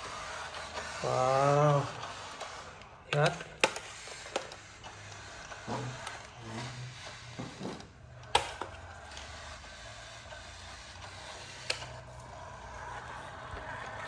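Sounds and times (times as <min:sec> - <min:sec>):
toy car motor whirring: 0:00.0 - 0:14.0.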